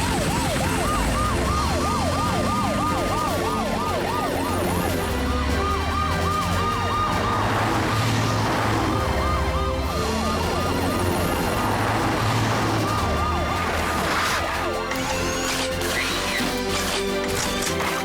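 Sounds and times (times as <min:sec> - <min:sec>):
music track: 0:00.0 - 0:18.0
sirens wailing: 0:00.0 - 0:18.0.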